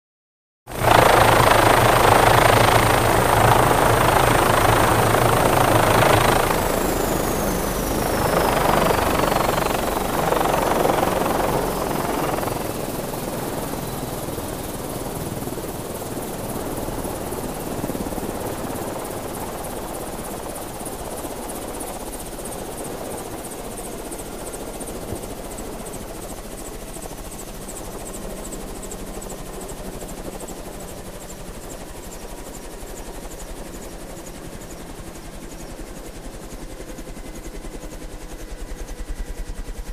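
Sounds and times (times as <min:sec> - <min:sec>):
helicopter rotor and engine: 0:00.7 - 0:39.9.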